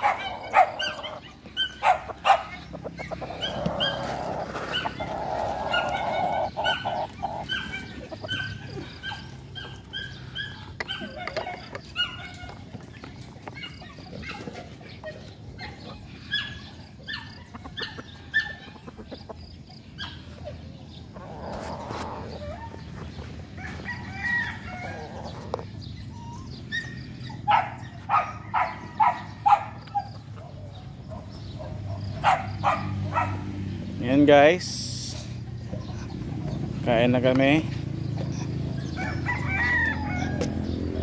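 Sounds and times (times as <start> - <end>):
chickens clucking and calling: 0.0 - 41.0.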